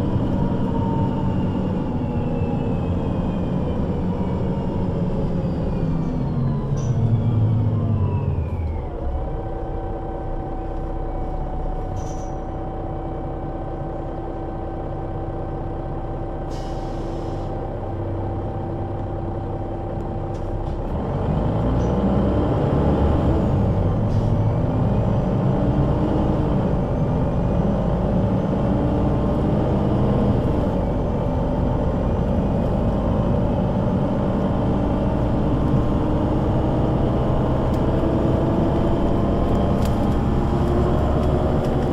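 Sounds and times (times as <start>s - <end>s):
bus engine and gearbox whine: 0.0s - 41.9s.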